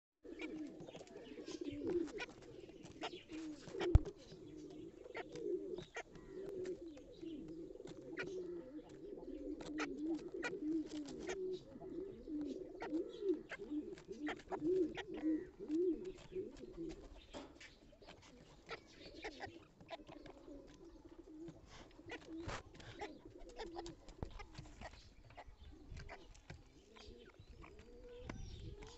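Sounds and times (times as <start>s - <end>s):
beaks pecking at grain: 0.3s - 28.9s
pigeons cooing: 0.3s - 28.9s.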